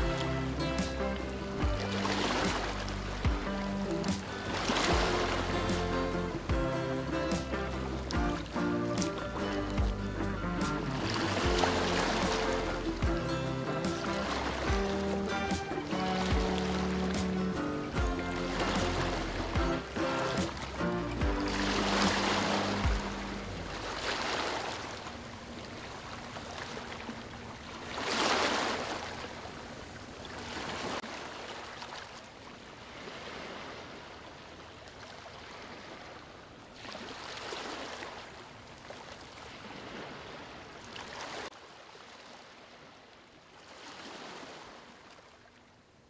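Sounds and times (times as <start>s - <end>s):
sea waves breaking on shore: 0.0s - 46.0s.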